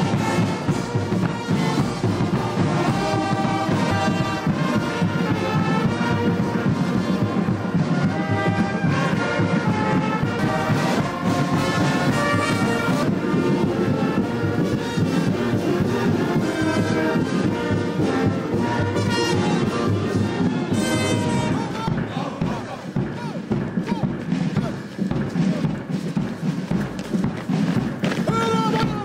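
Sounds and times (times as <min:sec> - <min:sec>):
orchestral music led by brass: 0:00.0 - 0:29.0.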